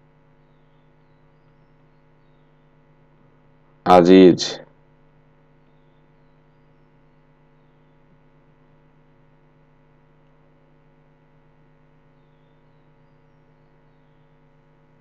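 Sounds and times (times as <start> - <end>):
faint electrical mains hum: 0.0 - 15.0.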